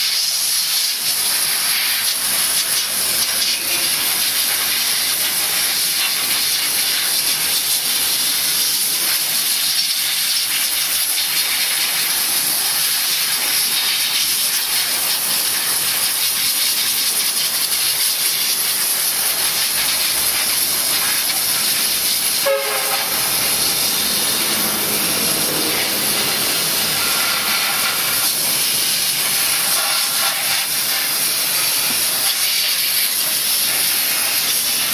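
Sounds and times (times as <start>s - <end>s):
steam cleaner hissing: 0.0s - 34.9s.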